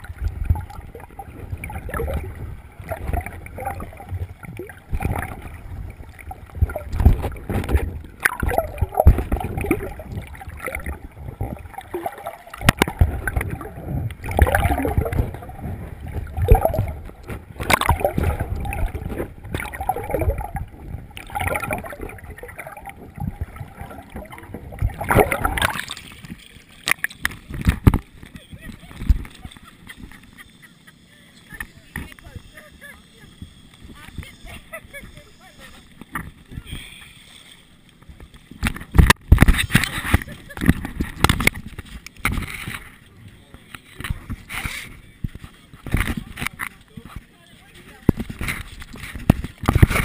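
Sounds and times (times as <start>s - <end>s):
bubbling: 0.0s - 30.7s, 31.4s - 44.6s
underwater sloshing and gurgling: 0.0s - 50.0s.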